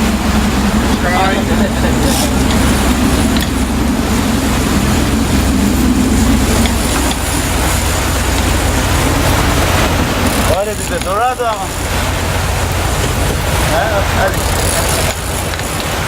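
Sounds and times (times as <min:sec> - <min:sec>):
boat engine droning: 0:00.0 - 0:16.0
wind and water rushing: 0:00.0 - 0:16.0.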